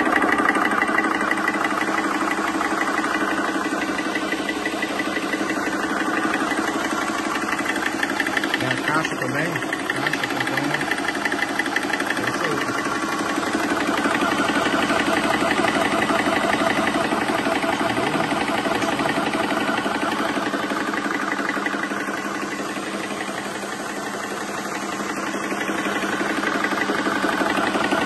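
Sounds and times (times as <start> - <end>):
air compressor chugging: 0.0 - 28.0.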